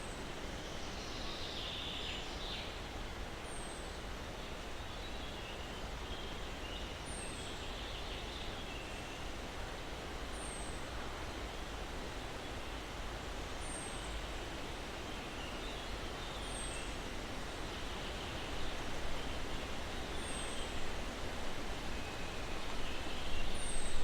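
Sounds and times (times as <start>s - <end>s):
breeze through pine branches: 0.0s - 24.0s.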